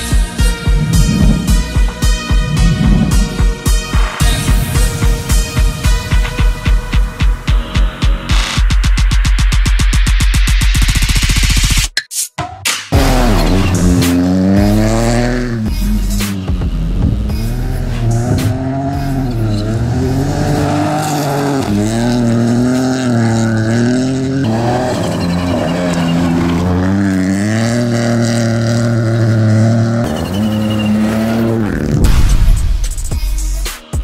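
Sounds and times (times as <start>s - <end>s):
rally car engine revving: 0.0s - 7.5s, 12.9s - 32.6s.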